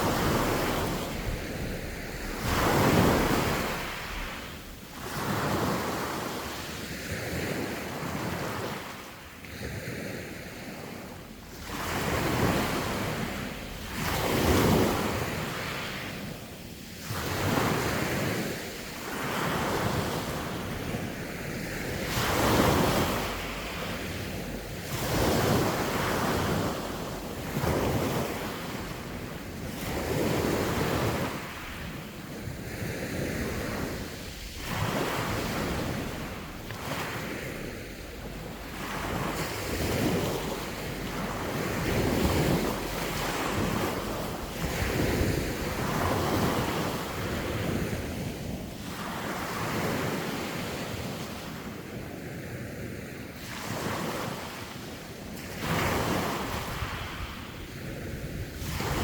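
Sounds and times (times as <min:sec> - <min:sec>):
waves breaking on shore: 0:00.0 - 0:59.0
wind rumbling on microphone: 0:00.0 - 0:59.0.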